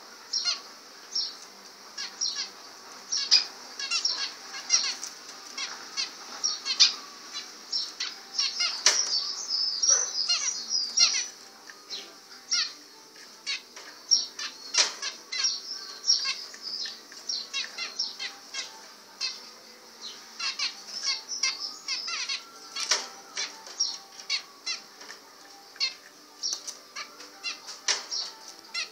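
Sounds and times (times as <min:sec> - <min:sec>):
finches chirping: 0:00.2 - 0:28.9.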